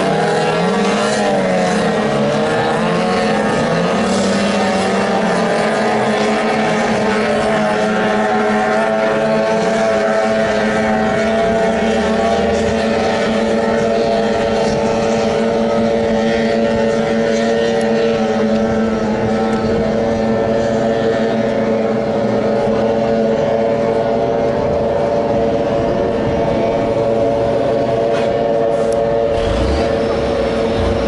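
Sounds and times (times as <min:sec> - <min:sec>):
outboard engine at speed: 0:00.0 - 0:31.0.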